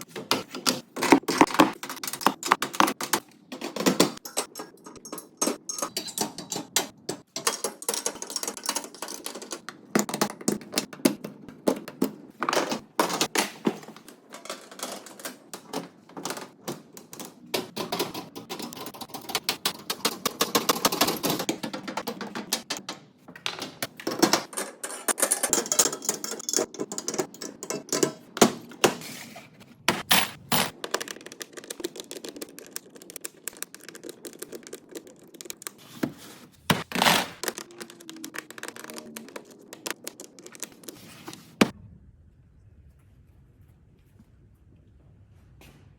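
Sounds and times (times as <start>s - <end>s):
hand tools clicking and clattering: 0.0s - 11.8s, 12.4s - 41.0s.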